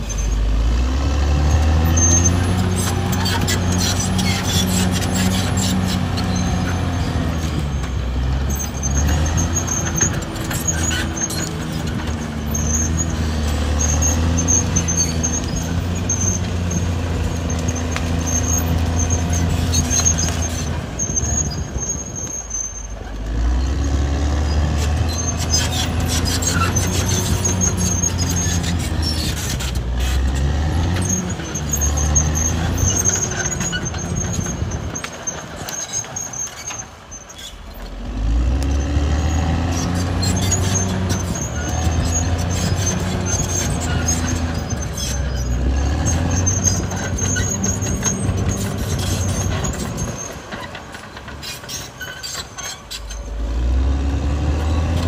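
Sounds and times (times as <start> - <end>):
high squeal: 0.0 - 38.0, 38.7 - 55.0
bulldozer diesel engine under load: 0.0 - 55.0.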